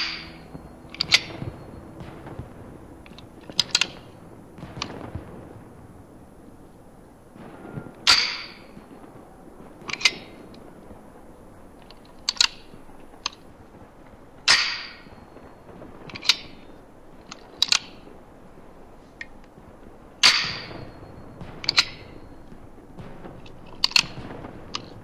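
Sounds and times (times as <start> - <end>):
sharp cracks with ringing tail: 0.0 - 25.0.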